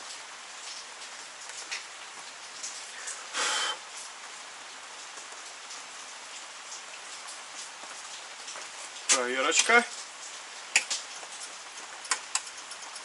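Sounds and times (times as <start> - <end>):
rain falling: 0.0 - 13.0
water drips: 0.0 - 13.0.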